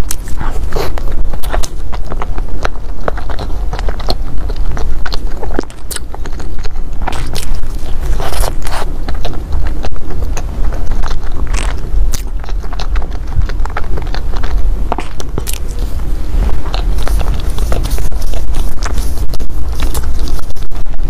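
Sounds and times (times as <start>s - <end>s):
crunchy pastry chewing: 0.0s - 21.0s.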